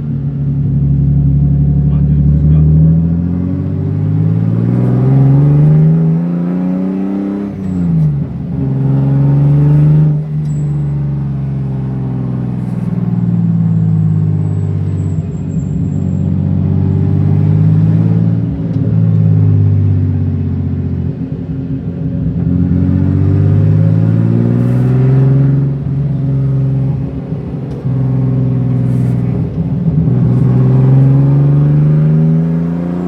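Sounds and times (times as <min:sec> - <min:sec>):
race car engine pulling hard: 0:00.0 - 0:33.0.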